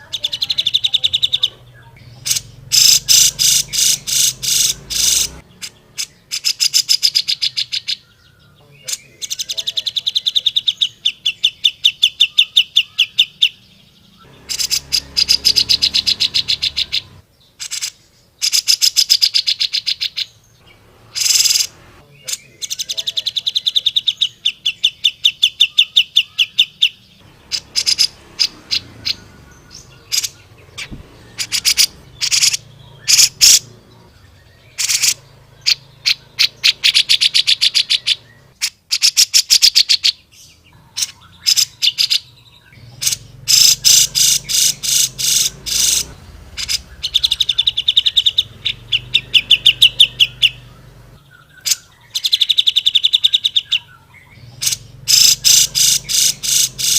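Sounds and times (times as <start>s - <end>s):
bird singing chattering trills: 0.0s - 56.9s.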